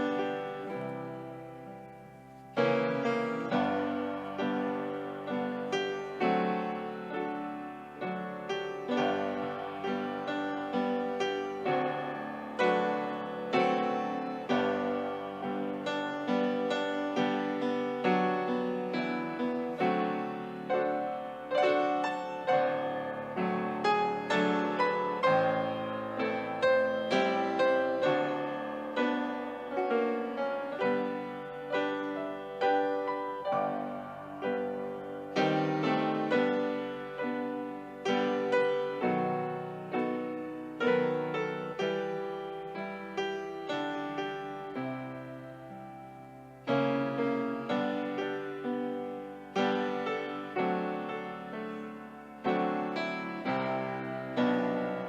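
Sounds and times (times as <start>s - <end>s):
piano playing slow chords: 0.0s - 55.0s.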